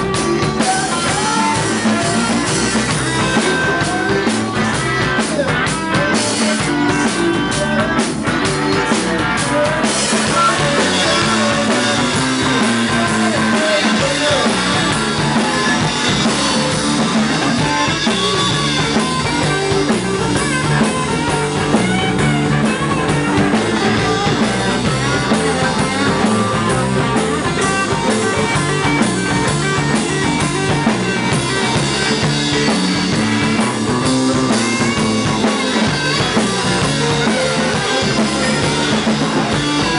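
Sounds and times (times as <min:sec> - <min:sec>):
rock song with drums and guitar: 0:00.0 - 0:39.9.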